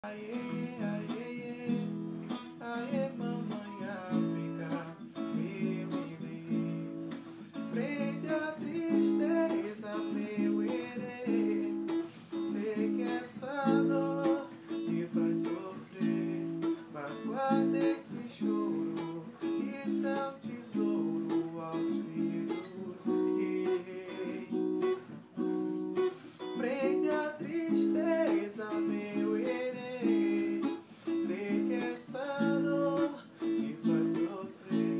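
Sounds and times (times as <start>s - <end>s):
man singing: 0.0s - 25.1s, 26.4s - 34.9s
acoustic guitar strummed: 0.0s - 34.9s.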